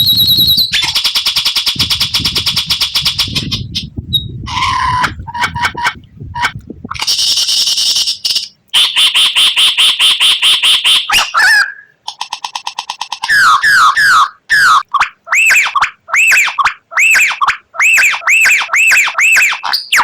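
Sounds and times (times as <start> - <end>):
bird song with buzzy notes and rattles: 0.0 - 20.0
sliding looping whistles: 0.0 - 20.0.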